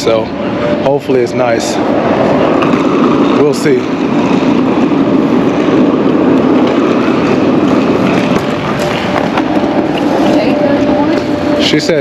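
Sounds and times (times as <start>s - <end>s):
vehicle running noise: 0.0s - 12.0s.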